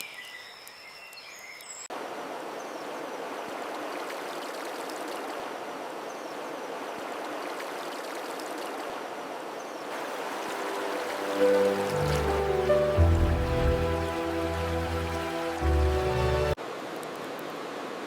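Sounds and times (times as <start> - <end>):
stream water running: 1.9 - 16.8.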